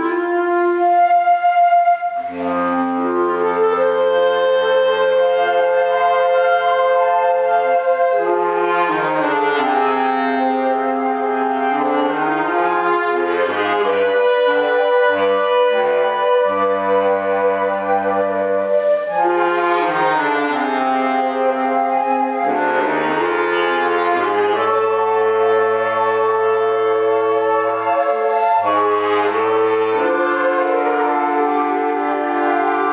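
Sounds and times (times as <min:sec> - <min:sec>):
woodwind ensemble playing chords: 0:00.0 - 0:32.9.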